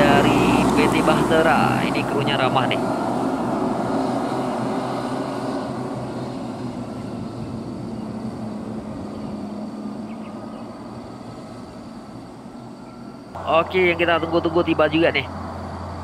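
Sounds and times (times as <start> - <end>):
vehicle engines droning: 0.0 - 16.0.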